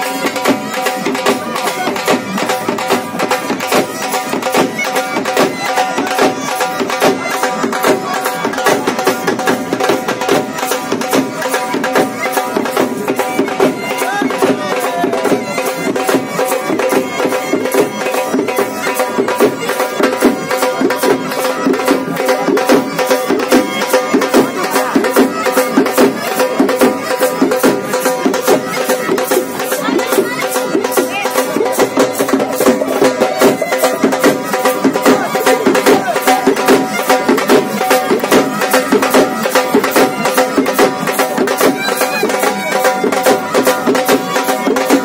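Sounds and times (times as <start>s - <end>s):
fast drumming: 0.0s - 45.0s
reedy wind instrument: 0.0s - 45.0s.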